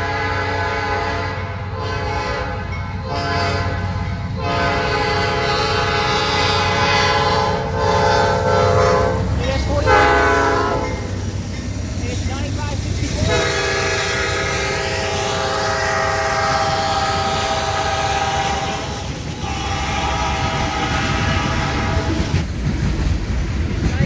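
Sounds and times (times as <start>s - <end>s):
locomotive air horn blasts: 0.0s - 11.1s, 13.2s - 22.4s
passing train rumble: 0.0s - 24.0s.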